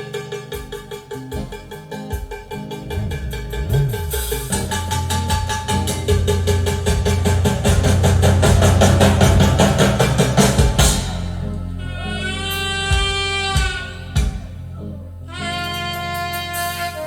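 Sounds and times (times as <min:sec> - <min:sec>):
jazz band rhythm section: 0:00.0 - 0:17.0
low sustained bass: 0:02.7 - 0:17.0
horn wailing notes: 0:02.8 - 0:17.0.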